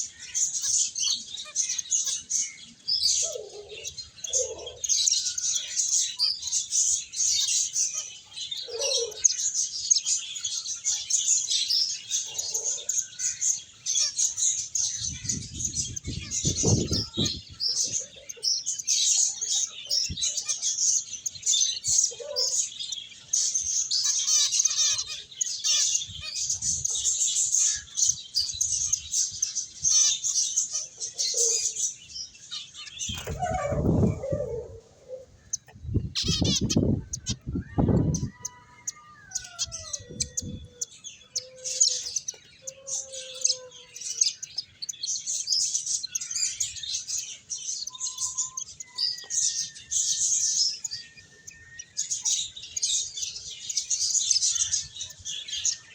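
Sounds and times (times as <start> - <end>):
finches chirping: 0.0 - 55.9.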